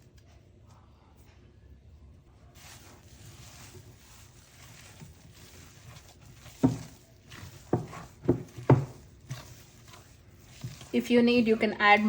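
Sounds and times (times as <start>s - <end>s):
hands mixing batter rustling: 0.0s - 12.0s.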